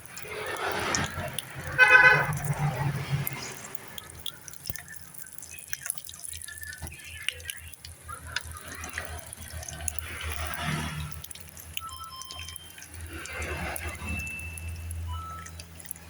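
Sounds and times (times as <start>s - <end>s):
fish frying in oil: 0.0s - 16.0s.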